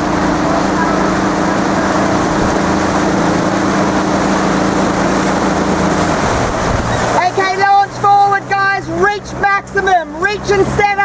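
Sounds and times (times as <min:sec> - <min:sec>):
motorboat engine humming: 0:00.0 - 0:11.0
wind and water rushing: 0:00.0 - 0:11.0.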